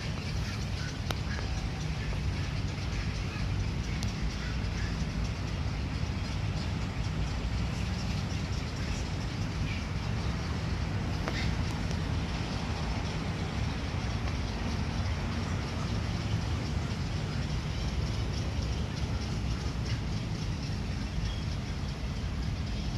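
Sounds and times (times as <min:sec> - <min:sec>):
outdoor rumble and hiss: 0:00.0 - 0:22.9.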